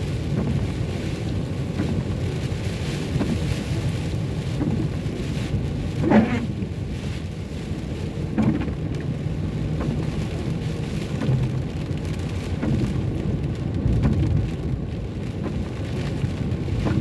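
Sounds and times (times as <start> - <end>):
car driving on wet road: 0.0 - 17.0.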